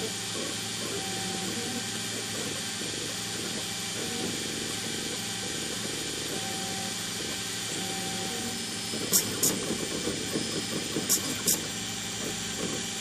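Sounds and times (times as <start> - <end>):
servo high-pitched buzzes: 0.0 - 13.0
stepper motors buzzing: 0.0 - 13.0
thin whine: 0.0 - 13.0.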